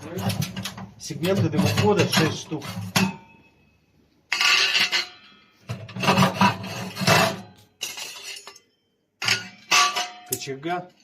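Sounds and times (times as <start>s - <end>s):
metal pipes scraping together: 0.0s - 3.4s, 4.3s - 10.6s.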